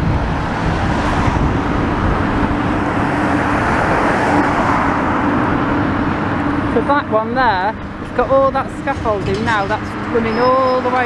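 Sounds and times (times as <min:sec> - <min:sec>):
excavator diesel engine humming: 0:00.0 - 0:11.0
road traffic passing: 0:00.0 - 0:11.0.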